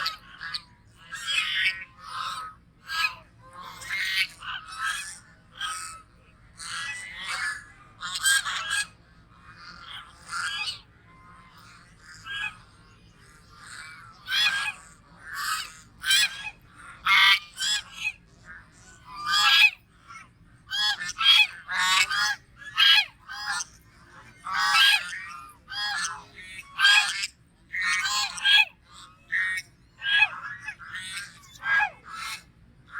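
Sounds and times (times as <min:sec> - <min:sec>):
goose honking: 0:00.0 - 0:32.5.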